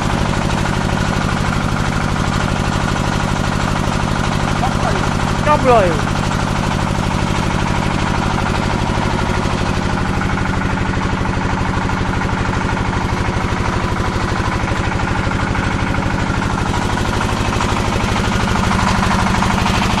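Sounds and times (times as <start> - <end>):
diesel engine chugging: 0.0 - 20.0.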